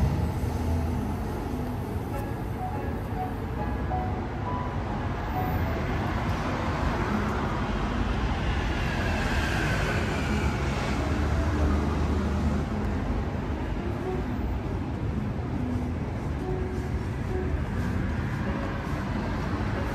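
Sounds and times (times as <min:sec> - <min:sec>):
traffic rumble and hiss: 0:00.0 - 0:19.9.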